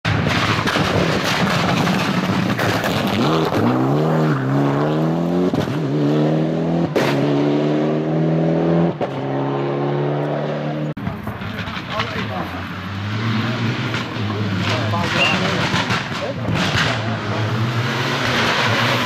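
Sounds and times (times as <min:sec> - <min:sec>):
rally car engine at full throttle: 0:00.1 - 0:19.0.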